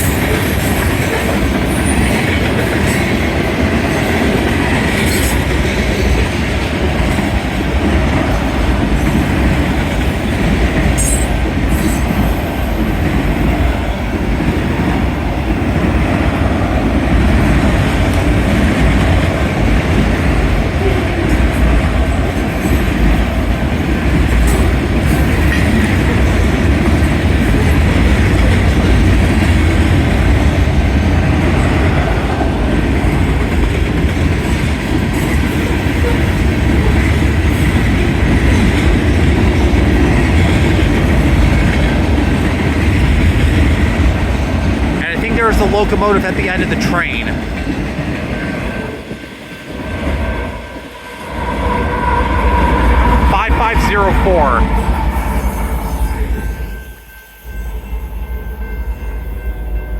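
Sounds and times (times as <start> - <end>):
freight train wheels clattering: 0.0 - 53.6.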